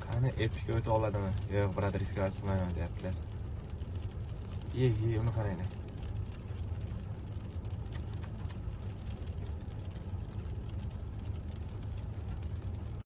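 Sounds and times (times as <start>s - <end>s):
car engine idling: 0.0s - 13.0s
faint clicks: 0.0s - 13.0s.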